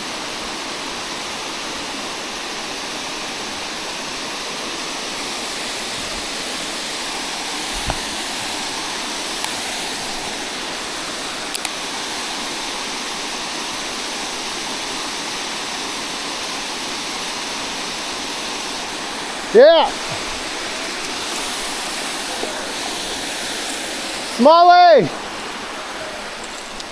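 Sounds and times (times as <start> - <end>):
fast-flowing river water: 0.0 - 26.9.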